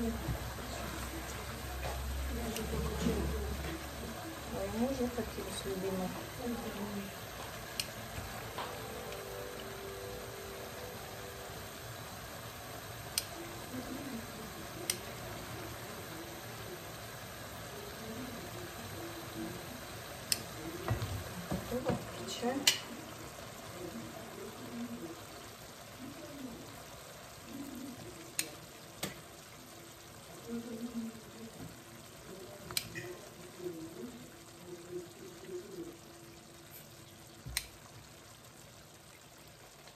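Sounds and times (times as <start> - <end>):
steady low hiss: 0.0 - 39.9.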